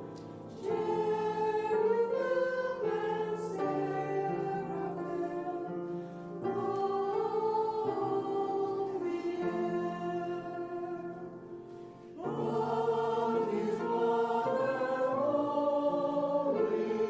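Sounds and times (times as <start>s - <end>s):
choir singing sustained chords: 0.0s - 17.0s.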